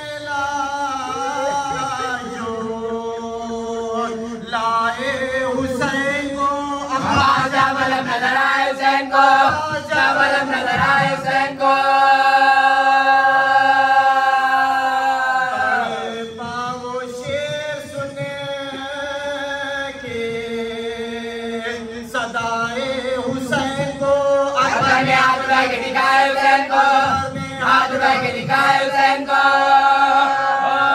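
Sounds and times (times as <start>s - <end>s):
voices chanting a lament: 0.0s - 30.9s.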